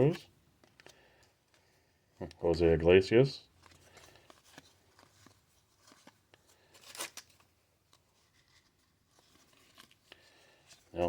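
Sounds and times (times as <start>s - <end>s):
cards being handled: 0.0s - 2.6s, 3.4s - 11.0s.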